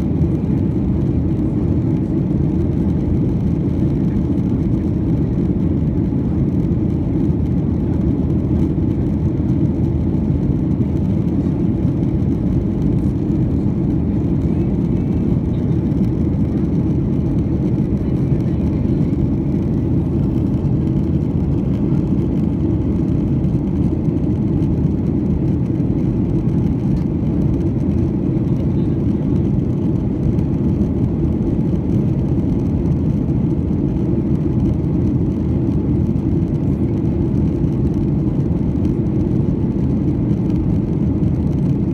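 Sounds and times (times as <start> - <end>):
airflow along fuselage: 0.0 - 41.9
jet engines rushing in cabin: 0.0 - 41.9.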